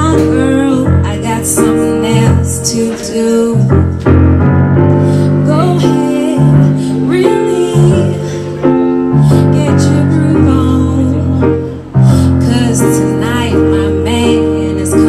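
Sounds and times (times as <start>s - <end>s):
woman singing: 0.0s - 4.0s, 5.3s - 15.0s
keyboard piano chords: 0.0s - 15.0s.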